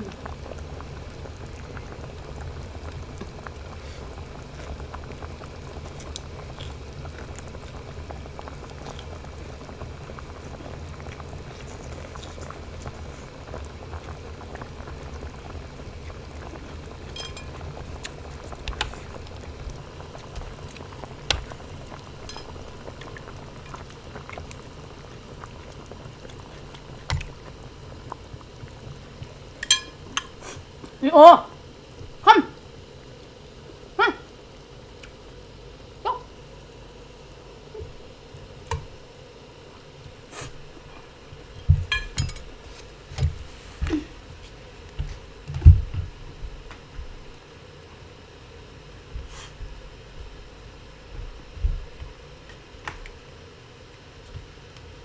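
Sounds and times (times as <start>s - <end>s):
broth bubbling in pot: 0.0s - 55.0s.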